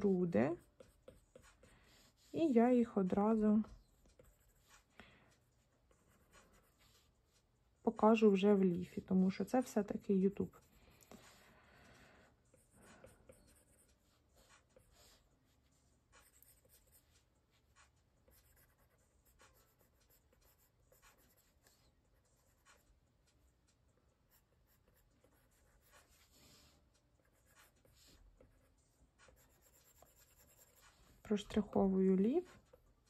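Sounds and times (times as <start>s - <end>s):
stylus scratching on tablet screen: 0.0s - 33.0s.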